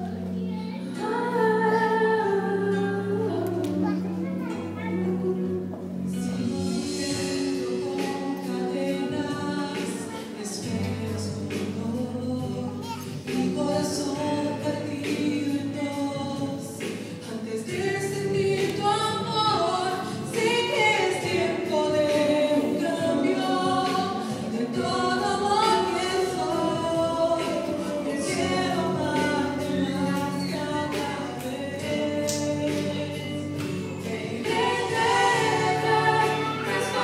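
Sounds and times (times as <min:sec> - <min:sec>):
women singing into microphones: 0:00.0 - 0:37.0.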